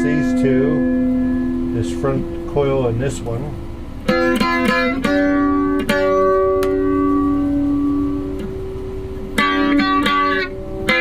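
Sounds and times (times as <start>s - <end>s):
electric guitar strumming: 0.0s - 11.0s.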